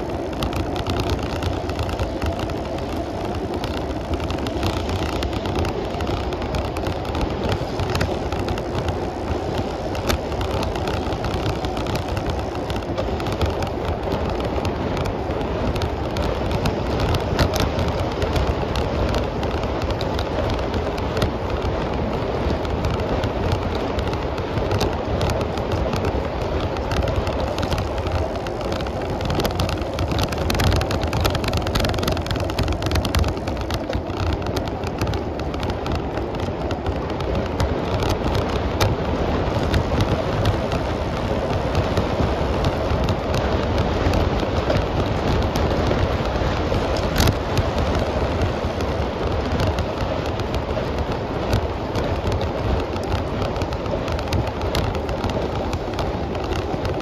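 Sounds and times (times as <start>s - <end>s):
small rattles and clicks: 0.0s - 57.0s
wind and road noise: 0.0s - 57.0s.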